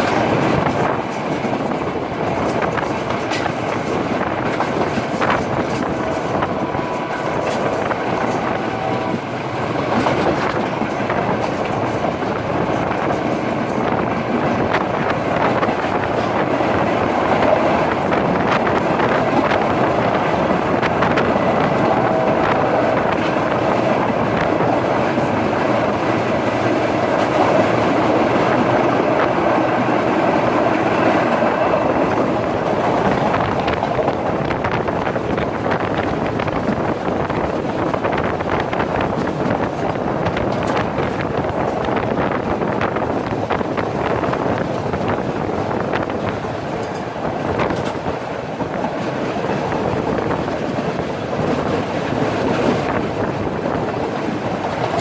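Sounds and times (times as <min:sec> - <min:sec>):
clickety-clack over rail joints: 0:00.0 - 0:55.0
train wheels rumbling on rails: 0:00.0 - 0:55.0.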